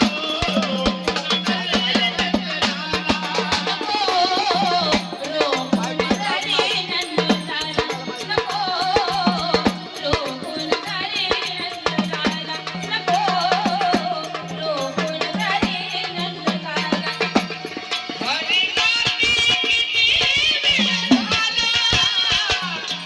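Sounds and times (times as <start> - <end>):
hand drum rhythm: 0.0 - 23.0
jingling percussion rattle: 0.0 - 23.0.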